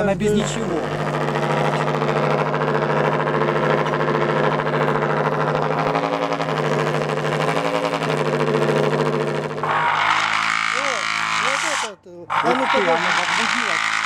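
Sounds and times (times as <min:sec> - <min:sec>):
steady low buzz: 0:00.0 - 0:14.0.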